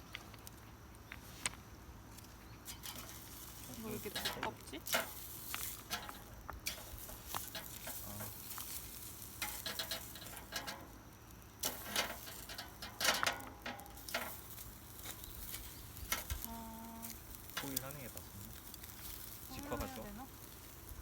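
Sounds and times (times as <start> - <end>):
fat and coals popping: 0.0 - 21.0
meat sizzling on grill: 1.8 - 21.0.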